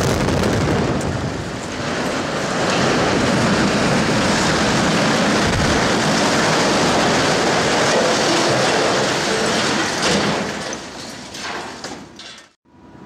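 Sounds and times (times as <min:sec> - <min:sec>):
concrete silo crashing down: 0:00.0 - 0:12.6.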